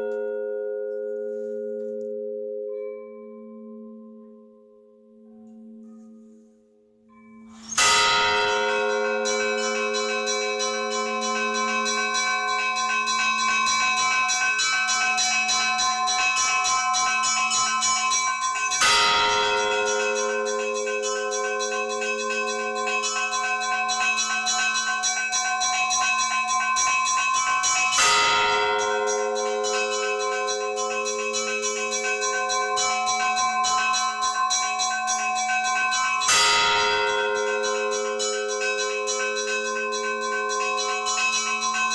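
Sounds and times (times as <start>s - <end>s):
small bells chiming: 0.0s - 41.9s.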